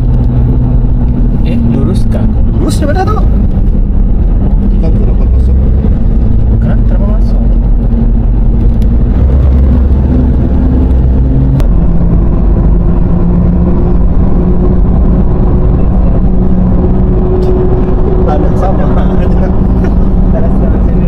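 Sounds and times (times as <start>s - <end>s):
car engine: 0.0s - 21.0s
road rumble: 0.0s - 21.0s.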